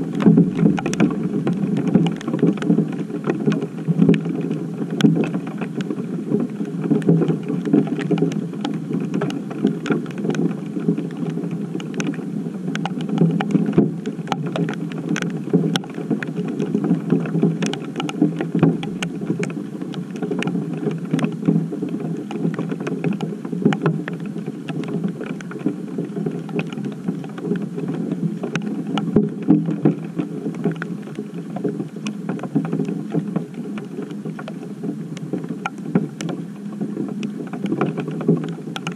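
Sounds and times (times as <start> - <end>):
rain and hail pattering: 0.0 - 38.9.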